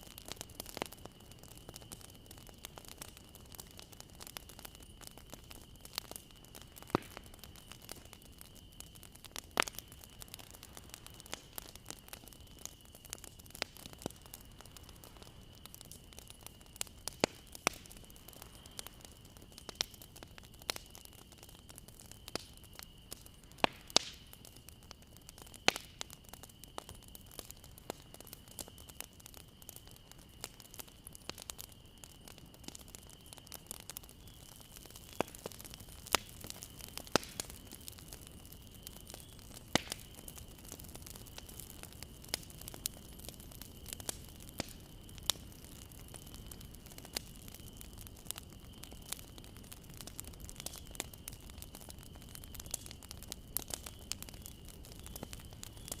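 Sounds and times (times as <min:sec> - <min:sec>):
bonfire crackling: 0:00.0 - 0:56.0.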